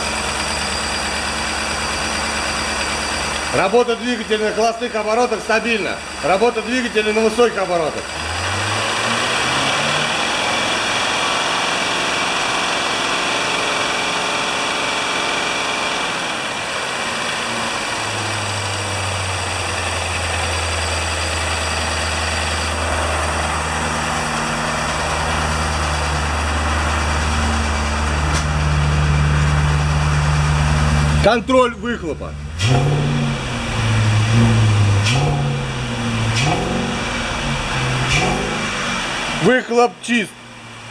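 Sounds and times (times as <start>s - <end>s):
car engine running at raised revs: 0.0s - 40.9s.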